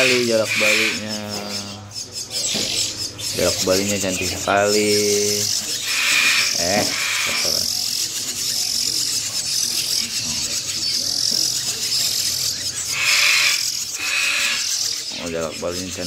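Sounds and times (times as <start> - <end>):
chicks begging with raspy calls: 0.0 - 16.0.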